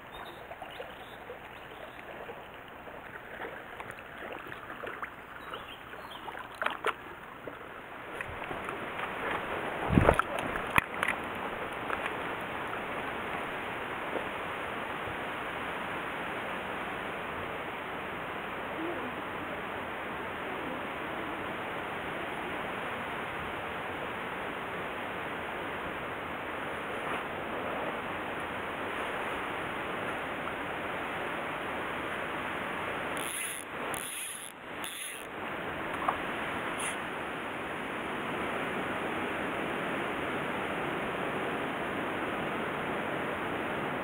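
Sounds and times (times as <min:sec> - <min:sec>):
stream water flowing: 0:00.0 - 0:44.0.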